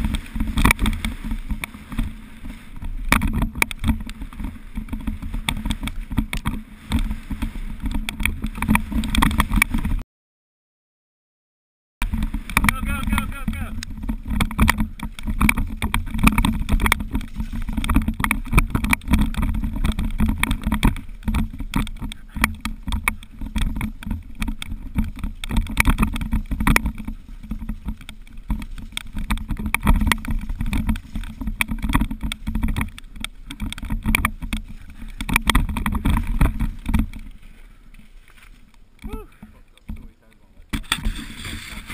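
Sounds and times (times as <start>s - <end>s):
mountain bike rattling and knocking: 0.0s - 10.0s, 12.0s - 41.9s
wind rumble on camera: 0.0s - 10.0s, 12.0s - 41.9s.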